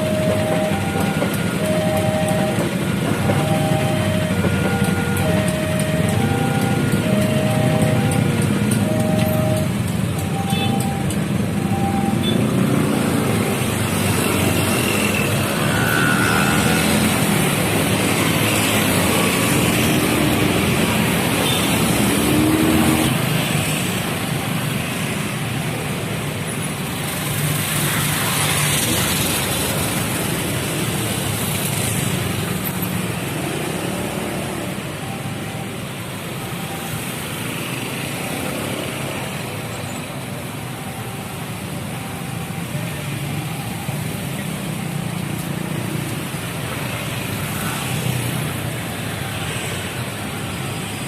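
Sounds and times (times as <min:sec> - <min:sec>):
crossing warning alarm tones: 0:00.0 - 0:51.0
road traffic: 0:00.0 - 0:51.0.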